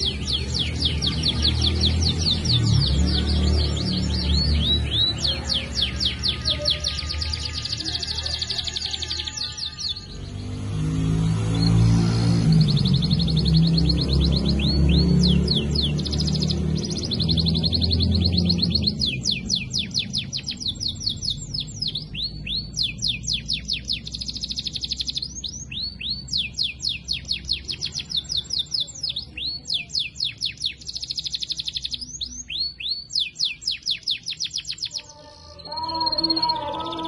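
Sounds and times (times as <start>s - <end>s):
canary trilling and chirping: 0.0s - 37.0s.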